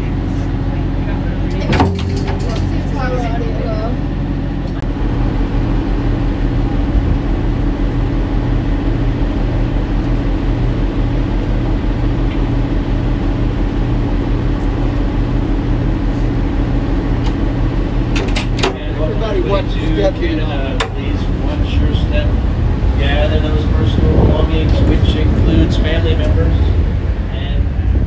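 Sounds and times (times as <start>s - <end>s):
boat engine throbbing: 0.0s - 28.0s.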